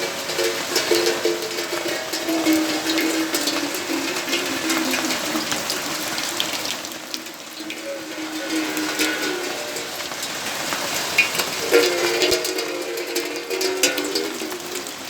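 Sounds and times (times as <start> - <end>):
drops ticking on hard surfaces: 0.0 - 15.0
steady rainfall: 0.0 - 15.0.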